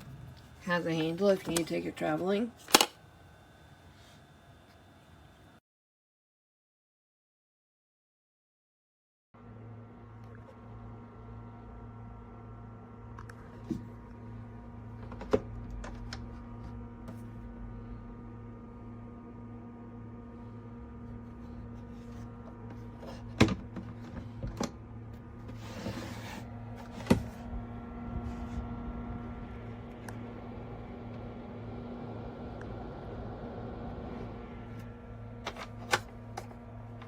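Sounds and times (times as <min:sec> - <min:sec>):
mini fridge humming: 0:00.0 - 0:05.6, 0:09.4 - 0:37.0.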